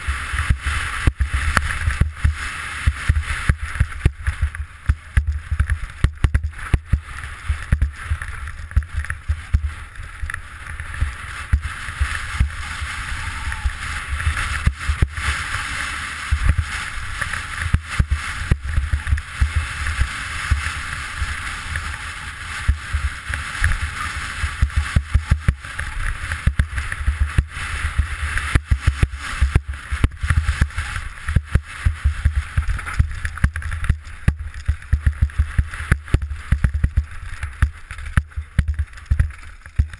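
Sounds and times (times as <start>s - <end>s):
bike and helmet knocks and rattles: 0.2s - 12.7s, 13.3s - 39.9s.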